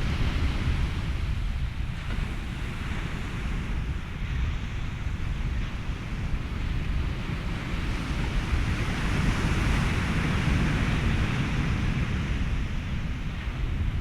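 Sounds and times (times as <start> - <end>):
ocean waves washing: 0.0 - 14.0
wind: 0.0 - 14.0.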